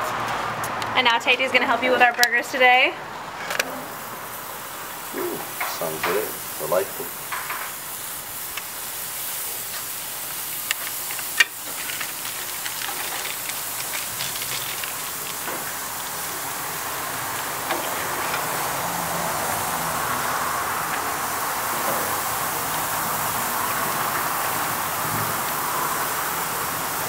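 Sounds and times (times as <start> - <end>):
burger patties sizzling on grill: 3.2 - 27.0.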